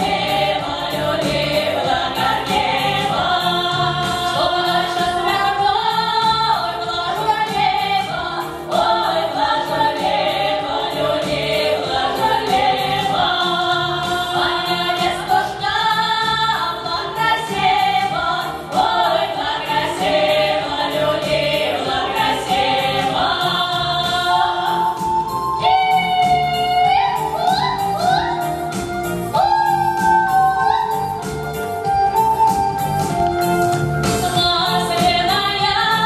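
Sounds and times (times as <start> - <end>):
women singing in harmony: 0.0 - 33.2, 34.0 - 36.0
amplified accompaniment with beat: 0.0 - 36.0.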